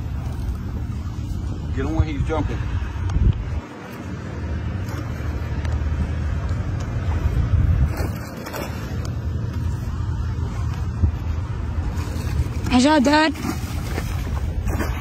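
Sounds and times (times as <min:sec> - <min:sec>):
boat motor rumbling: 0:00.0 - 0:15.0
water noise: 0:00.0 - 0:15.0
wind: 0:00.0 - 0:15.0.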